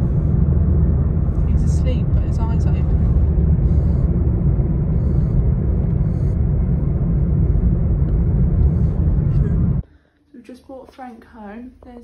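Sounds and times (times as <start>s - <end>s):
car road and engine rumble: 0.0s - 9.8s.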